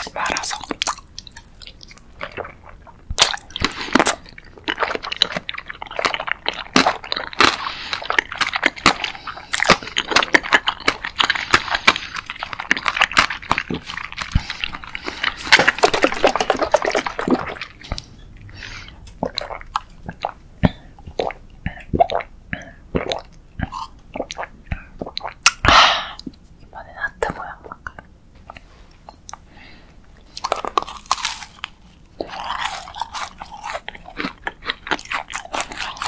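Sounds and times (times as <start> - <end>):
wet chewing of jelly: 0.0 - 26.5, 27.3 - 36.0.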